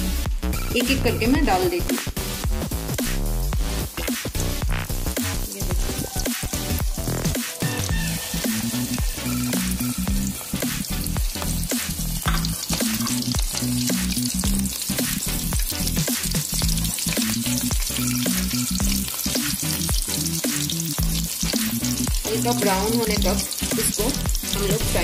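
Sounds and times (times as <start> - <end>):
background music: 0.0 - 25.0
deep-frying sizzle with pops: 0.0 - 25.0.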